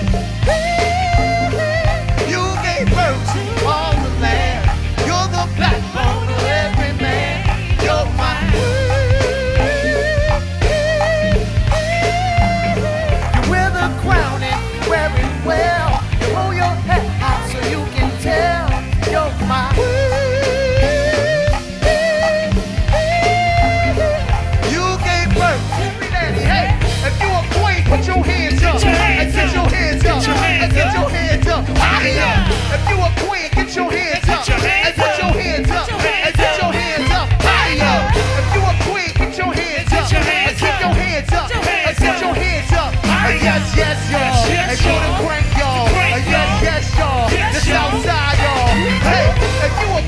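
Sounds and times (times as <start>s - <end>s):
heavy bass: 0.0s - 50.0s
live band music: 0.0s - 50.0s
steady drum beat: 0.0s - 50.0s
wavering lead melody: 0.0s - 50.0s.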